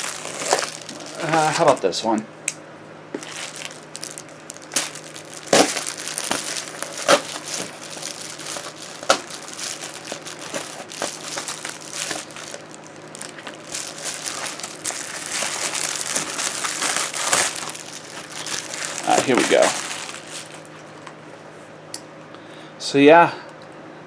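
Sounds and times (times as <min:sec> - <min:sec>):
packaging crackling snaps: 0:00.0 - 0:01.9, 0:03.2 - 0:21.2
packaging crinkling and rustling: 0:00.0 - 0:02.0, 0:03.2 - 0:21.2.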